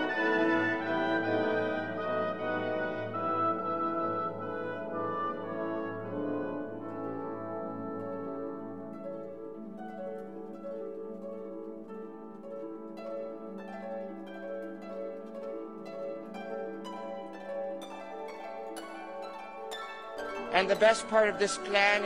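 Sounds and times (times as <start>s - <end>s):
plucked strings music: 0.0s - 22.0s.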